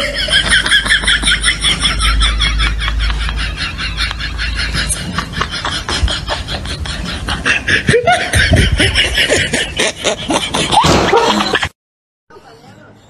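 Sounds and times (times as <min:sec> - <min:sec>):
person laughing: 0:00.0 - 0:11.7.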